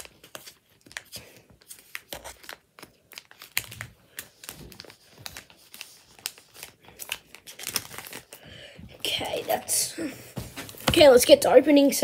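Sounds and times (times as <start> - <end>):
cards and plastic packets crinkling: 0.0 - 9.6.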